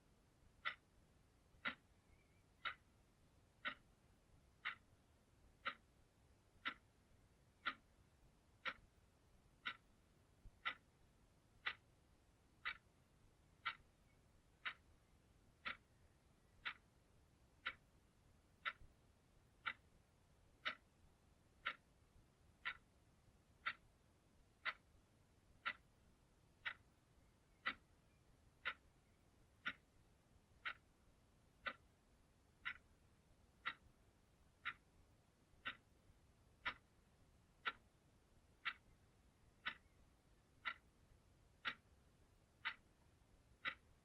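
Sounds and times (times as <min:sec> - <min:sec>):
clock ticking: 0:00.0 - 0:44.0.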